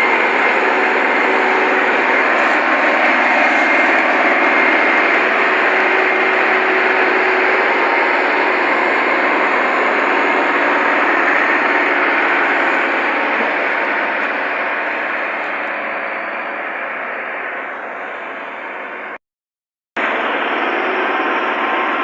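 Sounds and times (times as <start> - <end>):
tractor diesel engine under load: 0.0 - 19.2, 20.0 - 22.0.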